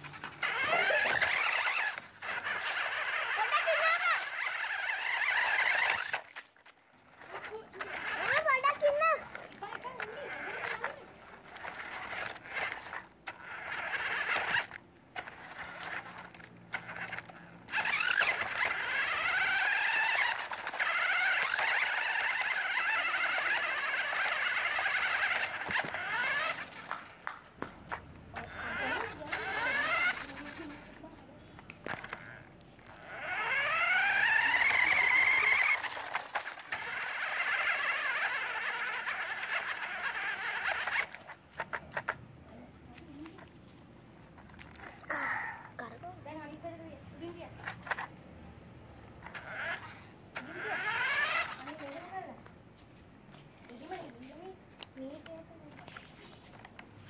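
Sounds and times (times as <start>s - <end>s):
toy car motor whining: 0.0s - 48.1s, 48.9s - 52.5s, 53.4s - 57.0s.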